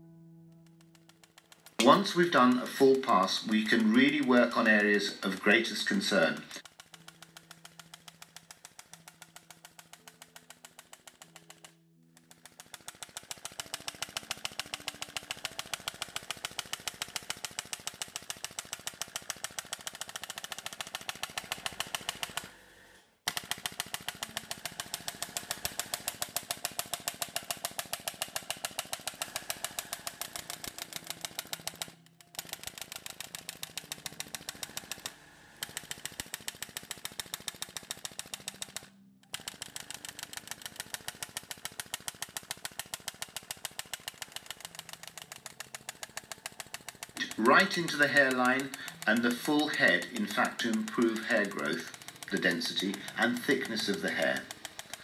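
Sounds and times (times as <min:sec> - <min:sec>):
injector gun clicking: 0:00.5 - 0:55.0.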